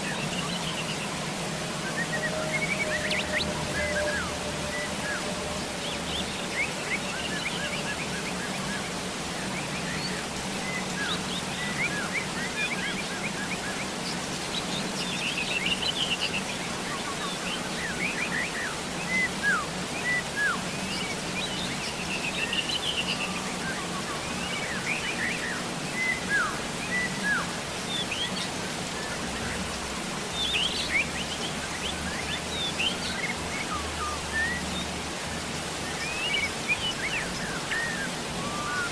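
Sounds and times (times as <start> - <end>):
birds chirping and trilling: 0.0 - 38.9
steady rain hiss: 0.0 - 38.9.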